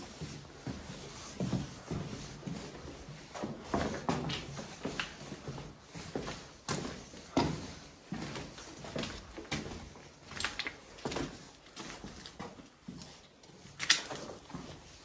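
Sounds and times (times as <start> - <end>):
footsteps on rubble-strewn concrete: 0.0 - 15.0.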